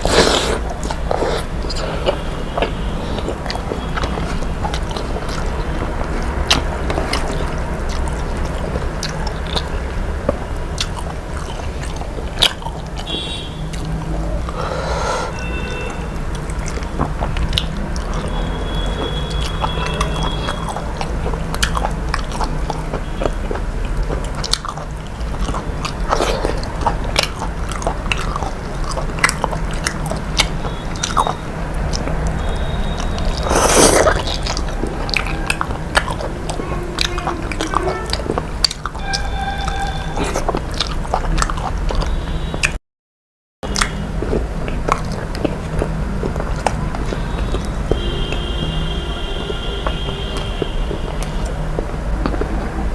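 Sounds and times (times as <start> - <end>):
person chewing food: 0.0 - 42.8, 43.6 - 52.9.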